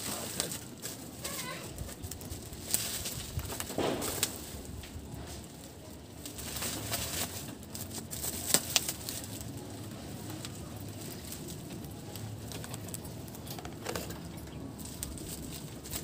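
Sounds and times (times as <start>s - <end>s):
plastic and wire parts rustling: 0.0s - 16.0s.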